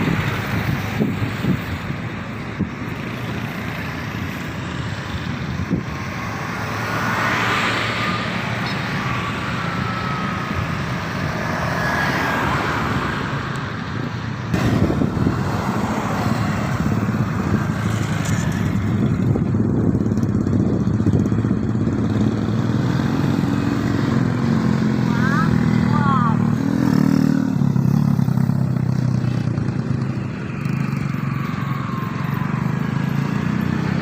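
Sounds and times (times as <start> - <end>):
vehicle engines running: 0.0 - 34.0.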